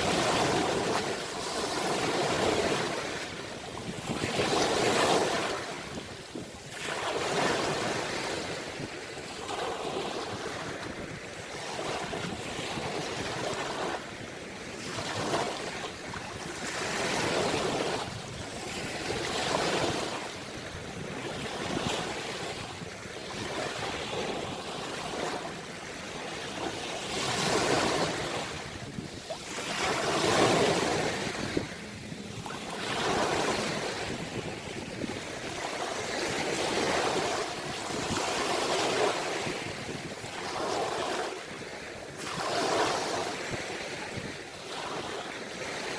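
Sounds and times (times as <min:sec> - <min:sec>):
ocean waves breaking: 0:00.0 - 0:45.9.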